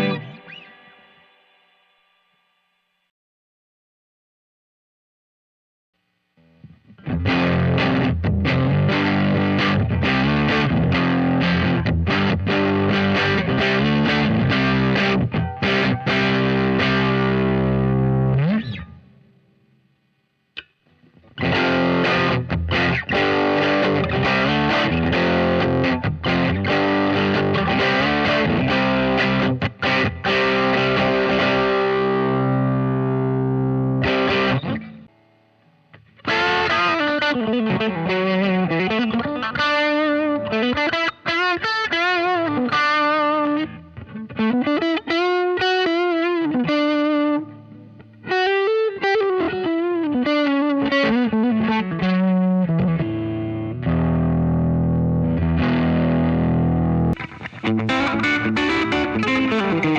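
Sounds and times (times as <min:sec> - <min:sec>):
distorted electric guitar: 0:00.0 - 0:02.2, 0:06.0 - 0:59.9.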